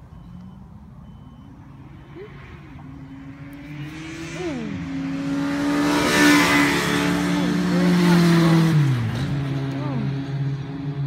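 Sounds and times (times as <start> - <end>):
vehicle engine accelerating: 0.0 - 11.0.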